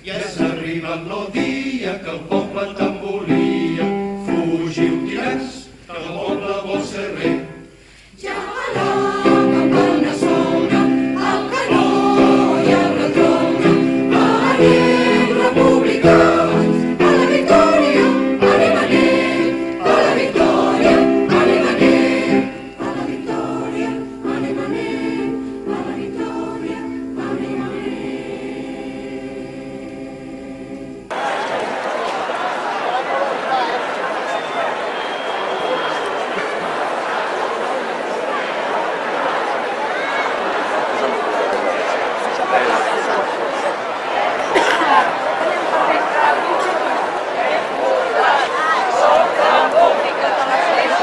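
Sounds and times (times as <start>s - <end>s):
choir singing with accompaniment: 0.0s - 51.0s.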